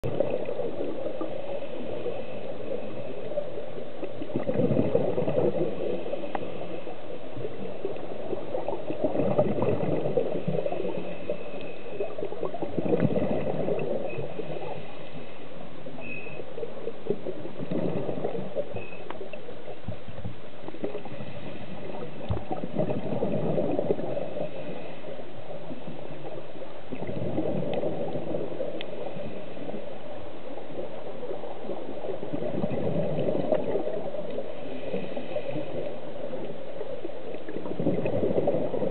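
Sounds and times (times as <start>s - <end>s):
exhaled bubbles gurgling: 0.0s - 38.9s
underwater hiss: 0.1s - 16.6s, 20.6s - 38.9s.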